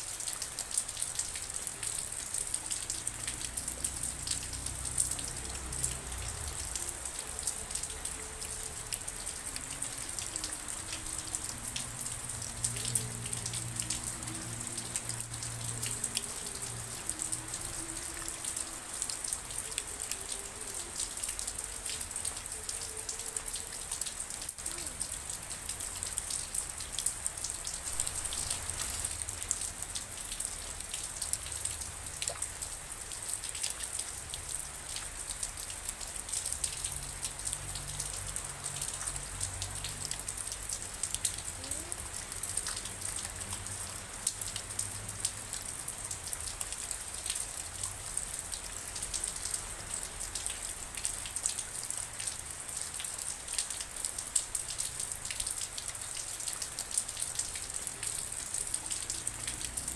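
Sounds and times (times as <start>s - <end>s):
rain: 0.0s - 59.9s
raindrops ticking: 0.0s - 59.9s.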